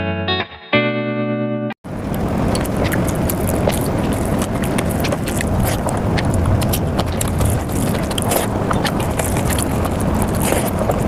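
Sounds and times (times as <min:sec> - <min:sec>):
steady low rumble: 0:01.9 - 0:11.0
wet chewing and lip smacks: 0:02.1 - 0:11.0.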